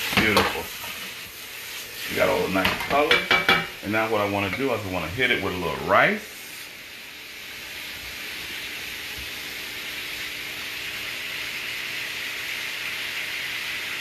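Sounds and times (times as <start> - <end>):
stir-fry sizzling in a pan: 0.0 - 14.0.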